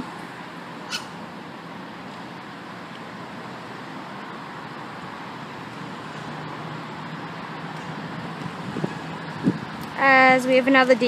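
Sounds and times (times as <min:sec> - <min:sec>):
approaching vehicle engine hum: 0:00.0 - 0:11.0
road traffic noise: 0:00.0 - 0:11.0.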